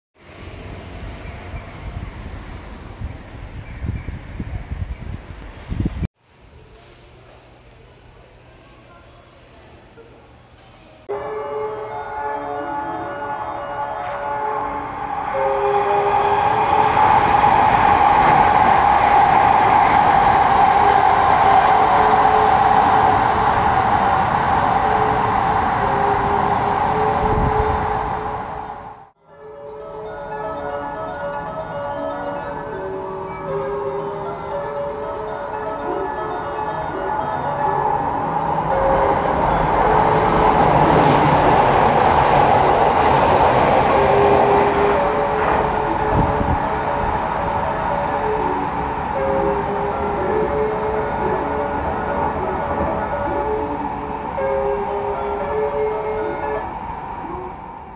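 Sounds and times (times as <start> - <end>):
electric train passing at speed: 0.2 - 6.1, 11.1 - 57.9.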